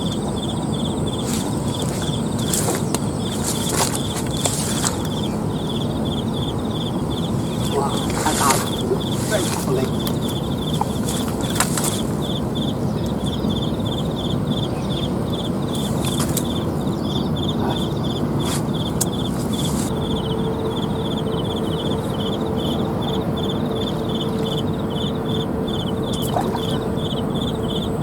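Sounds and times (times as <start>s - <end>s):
insect chirping in pulsed trills: 0.0s - 28.0s.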